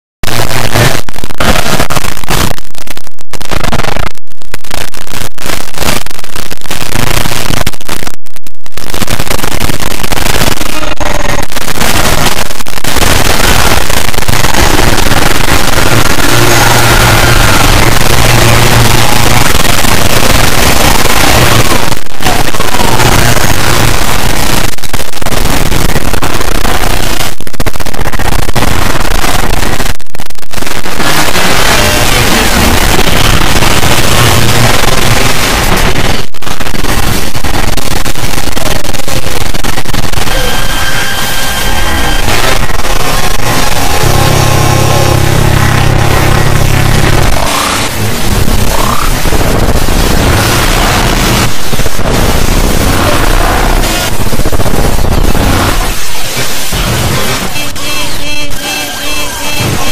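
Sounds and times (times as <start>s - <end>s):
harsh distorted noise: 0.0s - 59.9s.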